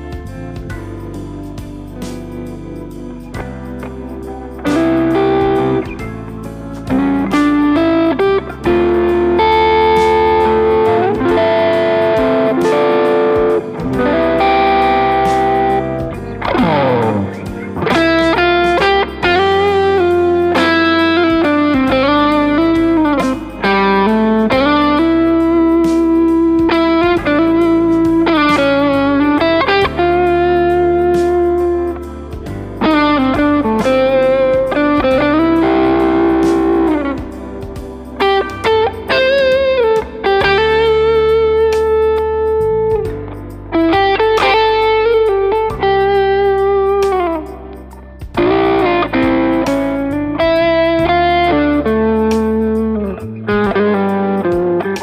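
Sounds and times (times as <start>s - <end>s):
backing track: 0.0s - 55.0s
electric guitar lead melody: 0.0s - 55.0s.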